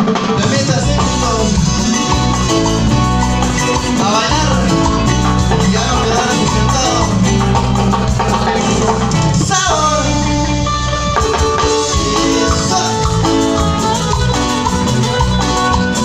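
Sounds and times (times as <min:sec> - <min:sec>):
electric guitar: 0:00.0 - 0:16.0
live band playing dance music: 0:00.0 - 0:16.0.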